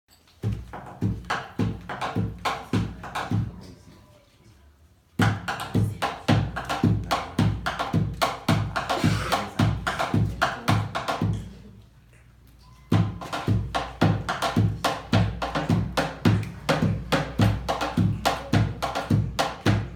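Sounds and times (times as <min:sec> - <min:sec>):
drums thumping in steady rhythm: 0:00.3 - 0:03.7, 0:05.2 - 0:11.7, 0:12.9 - 0:19.9.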